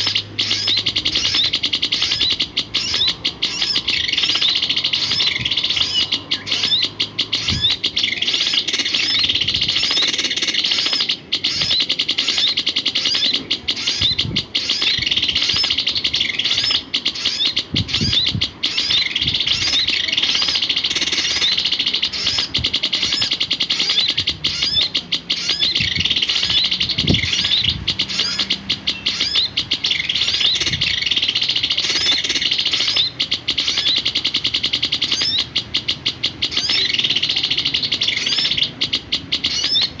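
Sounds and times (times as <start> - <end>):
songbird singing high chirps: 0.0 - 40.0.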